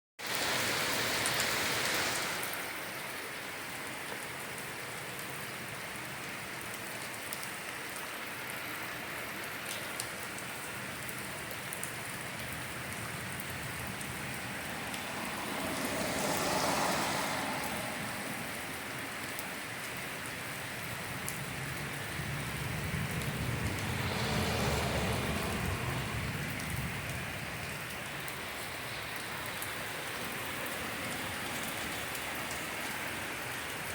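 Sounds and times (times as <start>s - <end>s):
torrential rain pouring: 0.2s - 33.9s.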